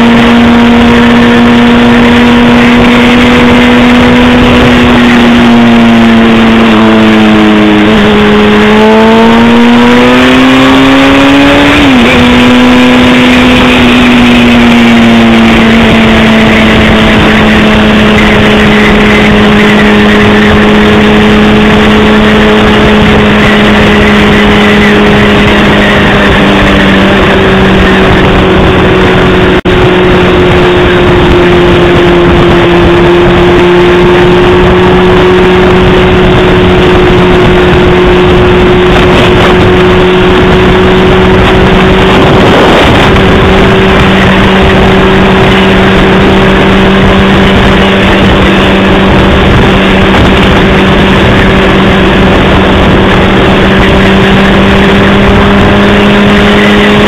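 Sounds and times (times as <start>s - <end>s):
motorcycle engine droning: 0.0s - 57.0s
wind and road noise: 0.0s - 57.0s.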